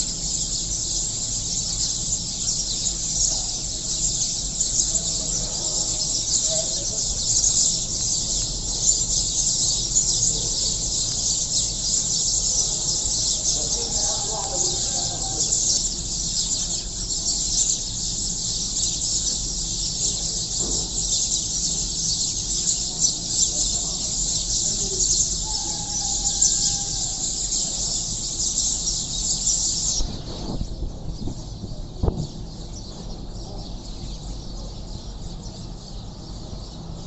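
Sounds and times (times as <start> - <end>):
sparrows chirping: 0.0 - 37.0.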